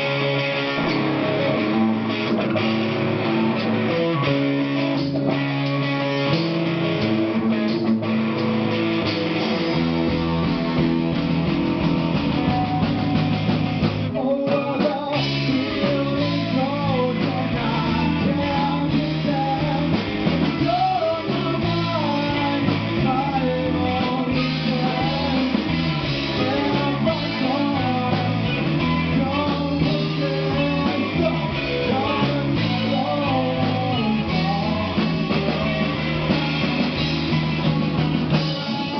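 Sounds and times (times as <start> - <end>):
person singing: 0.0 - 38.9
rock band playing live: 0.0 - 38.9.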